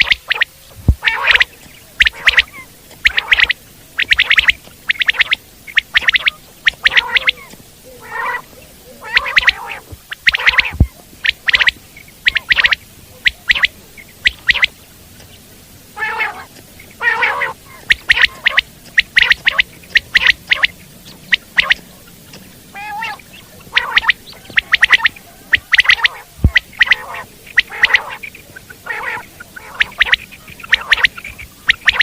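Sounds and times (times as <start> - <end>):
quail calling: 0.0 - 32.0.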